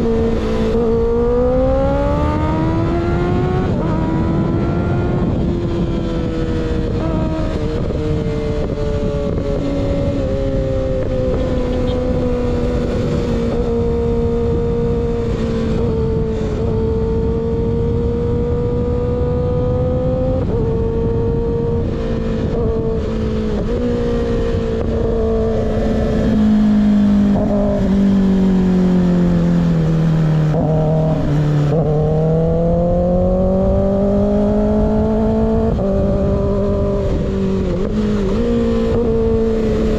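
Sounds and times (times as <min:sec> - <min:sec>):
motorcycle engine at cruising revs: 0:00.0 - 0:39.9
wind rush: 0:00.0 - 0:39.9.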